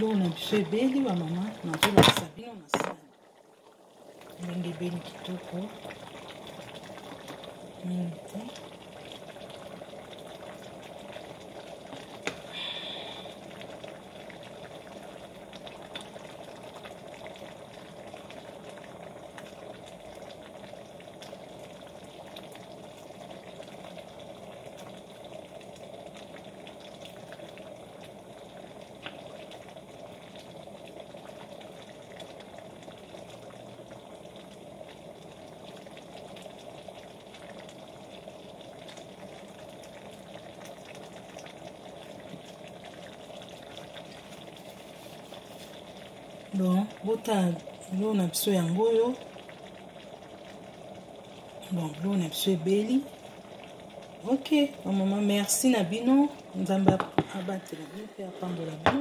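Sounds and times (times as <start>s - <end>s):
pot boiling with bubbling hiss: 0.0s - 59.0s.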